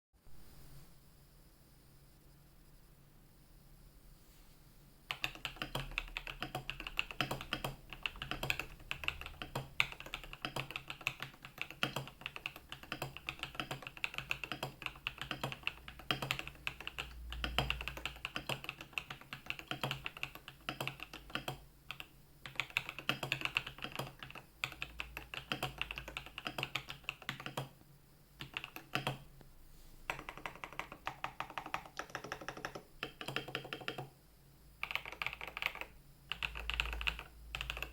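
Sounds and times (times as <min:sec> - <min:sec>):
fast typing on mechanical keyboard: 0:05.1 - 0:27.8, 0:28.4 - 0:29.3, 0:30.1 - 0:34.1, 0:34.8 - 0:37.9.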